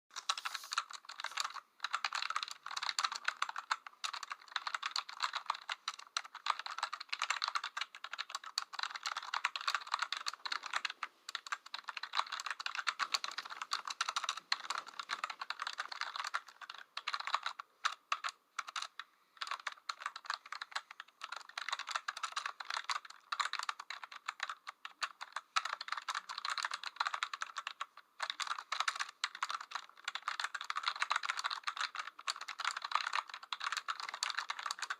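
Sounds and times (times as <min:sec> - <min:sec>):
typing on computer keyboard: 0:00.1 - 0:34.9.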